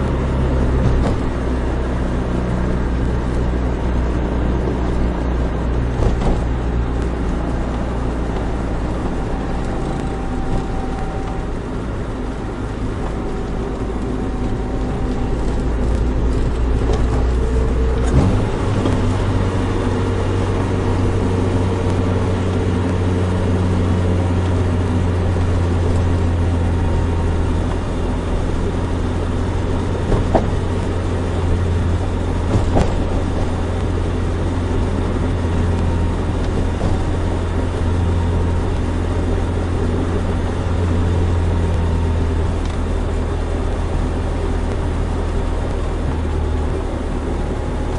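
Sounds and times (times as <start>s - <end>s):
car engine hum: 0.0s - 47.9s
road noise: 0.0s - 47.9s.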